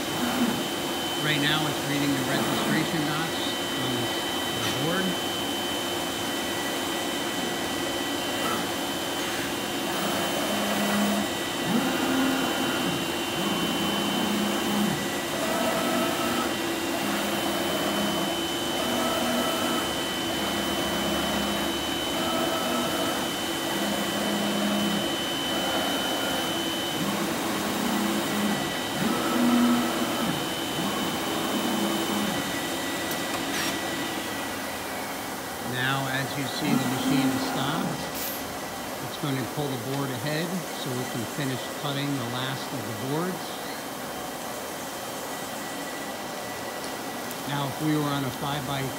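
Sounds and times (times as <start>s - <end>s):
cutting table drone: 0.0s - 43.9s.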